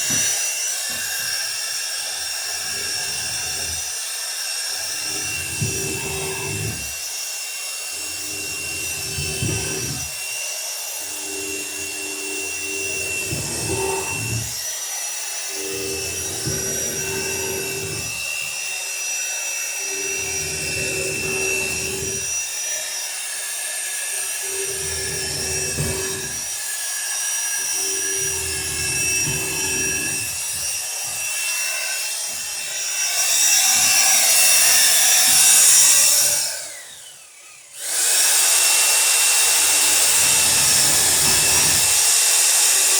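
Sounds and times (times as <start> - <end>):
electric drill boring into wood: 0.0 - 42.9.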